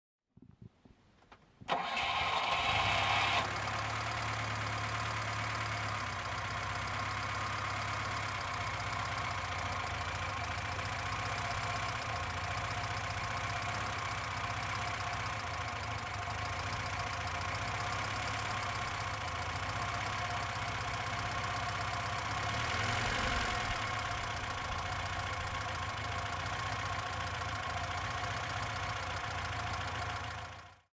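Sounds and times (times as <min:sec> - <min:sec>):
car engine idling: 0:01.7 - 0:30.8.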